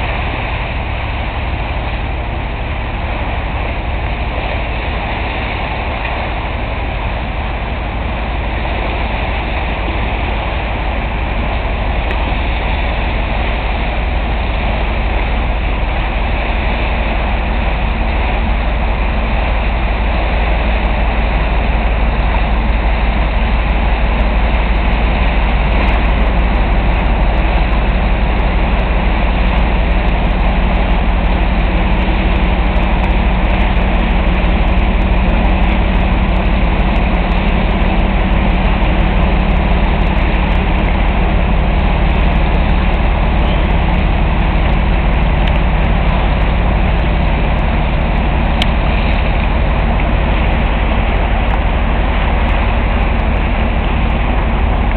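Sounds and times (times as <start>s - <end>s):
faint steady hum tones: 0.0s - 54.9s
ship engine drone: 0.0s - 54.9s.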